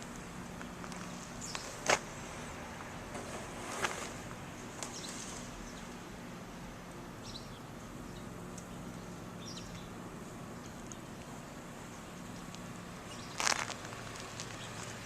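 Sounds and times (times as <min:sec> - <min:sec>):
small birds chirping: 0:00.0 - 0:02.0, 0:04.8 - 0:15.0
low steady hum: 0:00.0 - 0:15.0.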